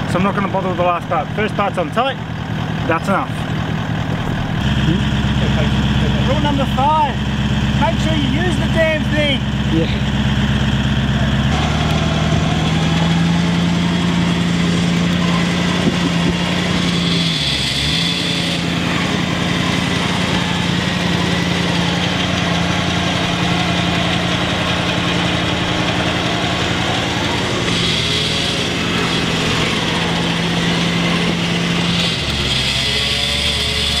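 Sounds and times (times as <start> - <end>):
electric winch motor running: 0.0 - 34.0.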